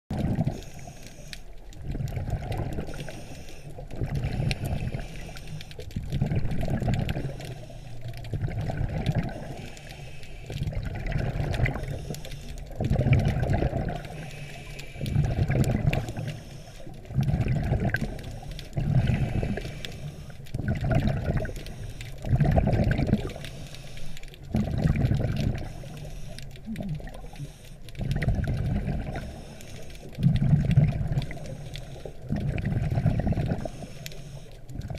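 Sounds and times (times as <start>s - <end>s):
bubbles rumbling underwater: 0.1s - 0.9s, 1.6s - 9.9s, 10.5s - 14.3s, 14.9s - 23.6s, 24.4s - 34.9s
diver breathing through regulator: 0.4s - 1.8s, 2.4s - 28.2s, 29.0s - 34.8s.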